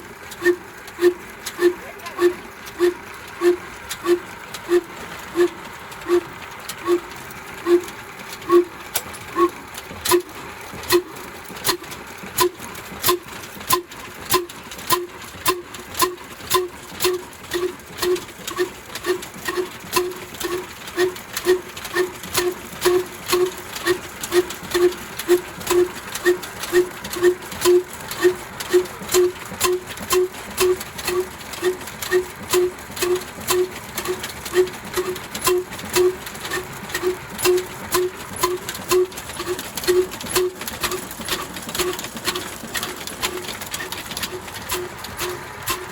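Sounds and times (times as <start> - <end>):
diesel engine exhaust beats: 0.0 - 45.9.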